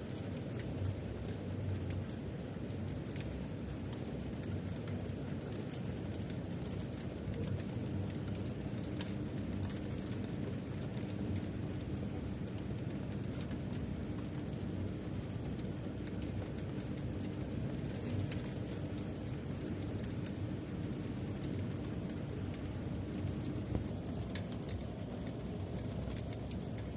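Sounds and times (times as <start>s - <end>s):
faint raindrop ticks: 0.0s - 26.9s
heavy rain behind window: 0.0s - 26.9s.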